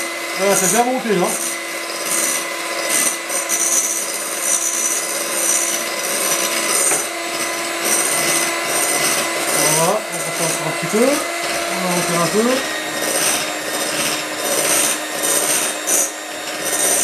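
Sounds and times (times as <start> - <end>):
electric hand mixer whisking: 0.0 - 17.0.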